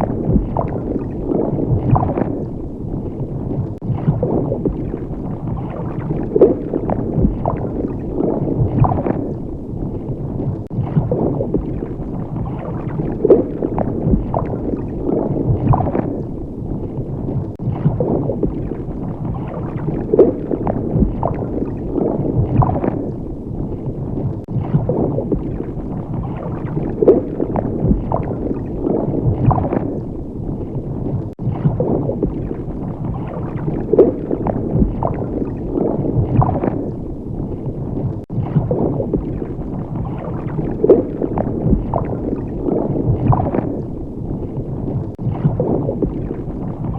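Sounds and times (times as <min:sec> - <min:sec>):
water bubbling and gurgling: 0:00.0 - 0:46.9.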